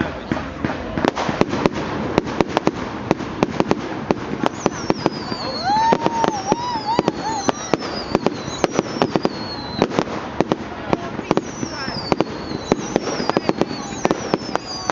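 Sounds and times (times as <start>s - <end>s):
fireworks crackling bangs: 0.0s - 14.9s
whistling fireworks: 0.0s - 14.9s.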